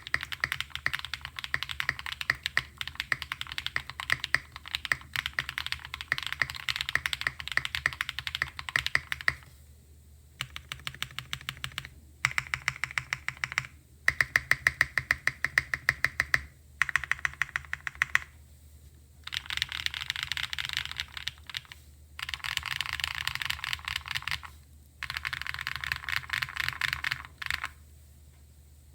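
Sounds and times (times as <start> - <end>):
typing on mechanical keyboard: 0.0 - 9.5, 10.4 - 18.3, 19.2 - 27.8.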